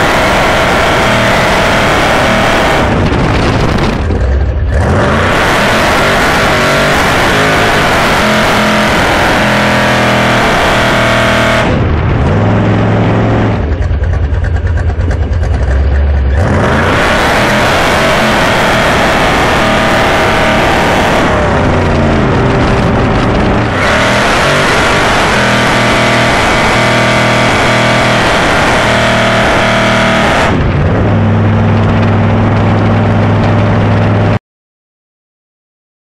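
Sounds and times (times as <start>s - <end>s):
car engine revving hard: 0.0s - 13.7s, 16.2s - 34.4s.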